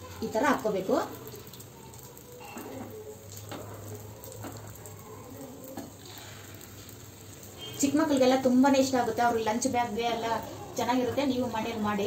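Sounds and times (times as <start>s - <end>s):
batter sizzling in pan: 0.0s - 12.0s.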